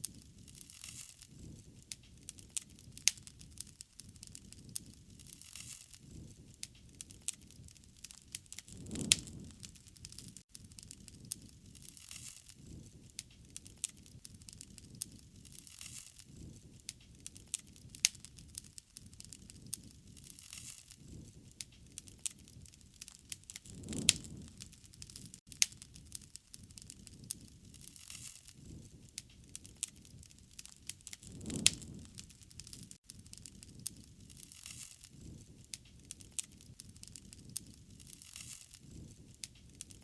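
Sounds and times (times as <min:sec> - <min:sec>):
low rushing of fire: 0:00.0 - 0:40.0
wood fire crackling and popping: 0:00.0 - 0:40.0.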